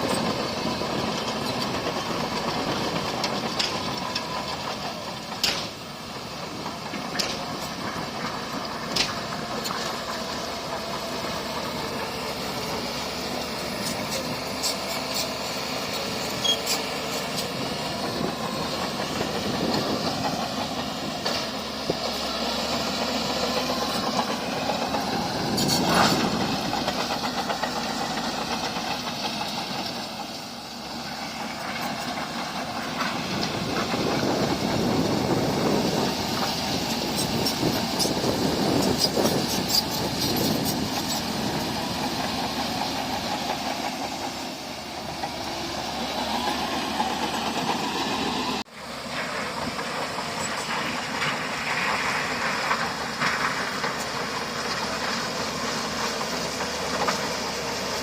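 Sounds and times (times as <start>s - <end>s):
bulldozer diesel engine running: 0.0s - 58.0s
crawler tracks clanking: 0.0s - 58.0s.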